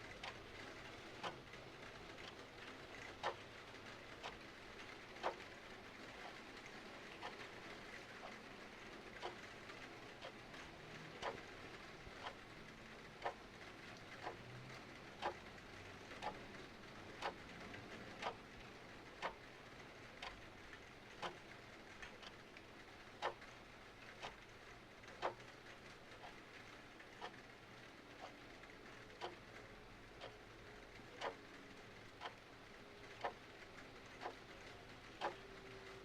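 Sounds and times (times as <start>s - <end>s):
clock ticking: 0.0s - 6.4s, 7.0s - 7.6s, 9.2s - 14.4s, 15.0s - 36.0s
soft hiss of rain: 0.0s - 36.0s.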